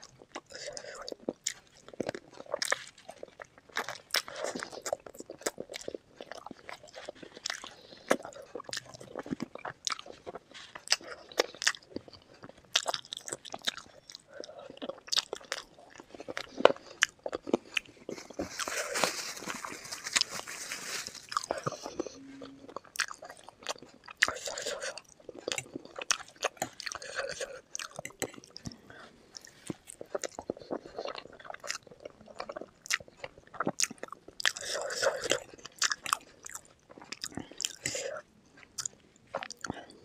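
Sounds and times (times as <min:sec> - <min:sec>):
close-miked chewing crunches: 0:00.0 - 0:40.0.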